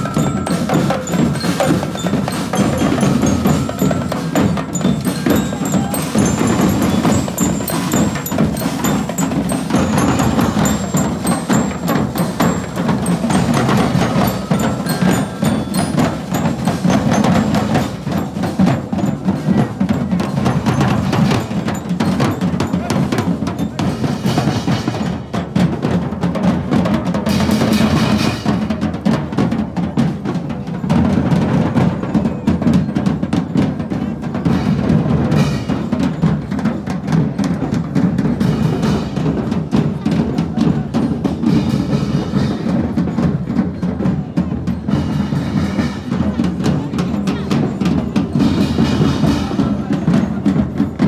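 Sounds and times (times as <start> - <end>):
snare drums playing busy rhythm: 0.0 - 51.0.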